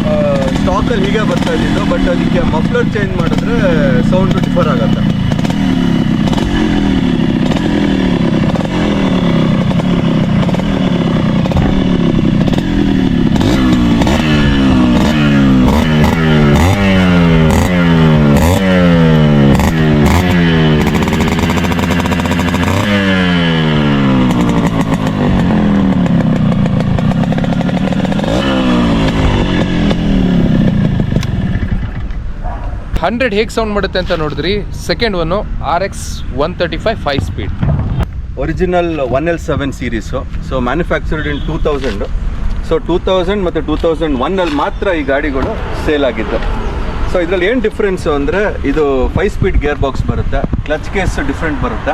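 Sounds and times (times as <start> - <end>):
two-stroke engine revving: 0.0 - 38.1, 43.2 - 51.9.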